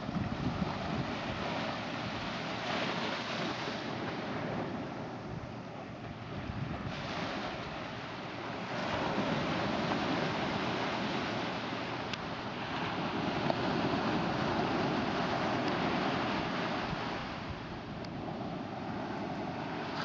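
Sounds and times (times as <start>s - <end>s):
surf washing up a beach: 0.0s - 20.0s.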